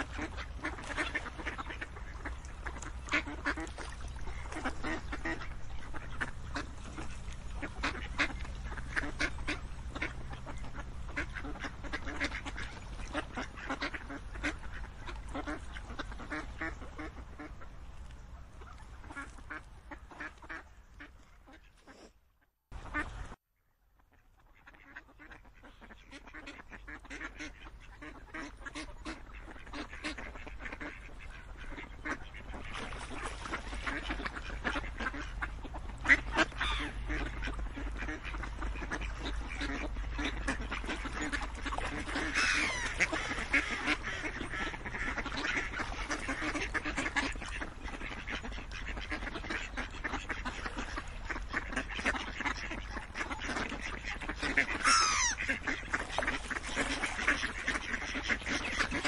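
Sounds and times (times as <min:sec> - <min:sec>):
ducks quacking: 0:00.0 - 0:22.2, 0:22.8 - 0:23.4, 0:24.1 - 0:59.0.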